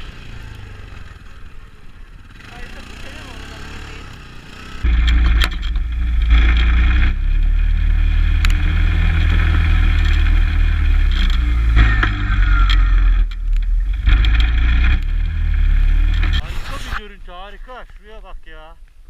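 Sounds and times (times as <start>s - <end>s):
quad bike engine running: 0.0s - 16.4s.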